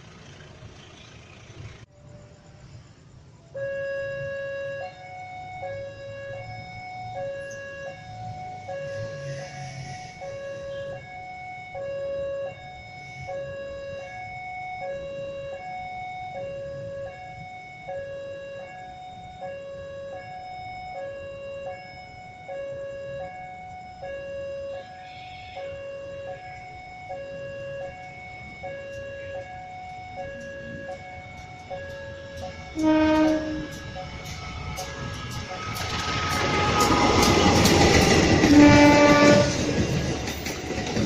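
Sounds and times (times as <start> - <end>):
two-tone electronic warning alarm: 3.5 - 41.0.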